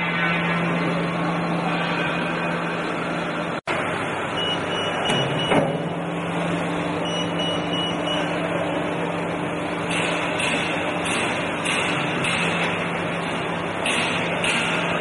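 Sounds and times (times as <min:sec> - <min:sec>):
hydraulic unit humming: 0:00.0 - 0:15.0.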